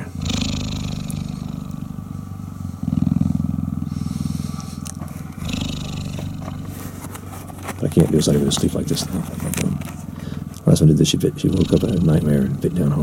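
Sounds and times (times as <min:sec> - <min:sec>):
cheetah purring: 0:00.0 - 0:13.0.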